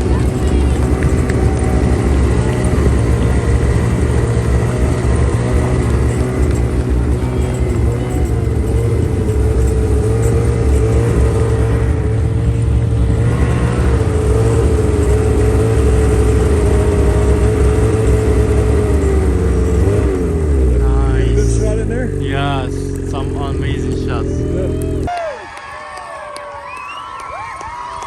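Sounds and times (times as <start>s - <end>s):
engine running steadily: 0.0s - 25.1s.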